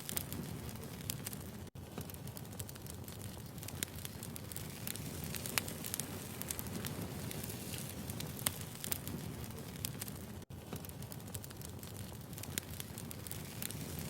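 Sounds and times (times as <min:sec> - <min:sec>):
fire crackles and pops: 0:00.0 - 0:14.0
wood fire burning: 0:00.0 - 0:14.0.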